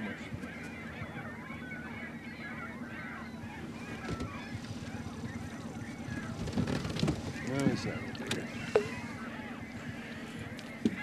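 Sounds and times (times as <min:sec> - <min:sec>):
flock of birds honking: 0:00.0 - 0:11.0
steady low hum: 0:00.0 - 0:11.0.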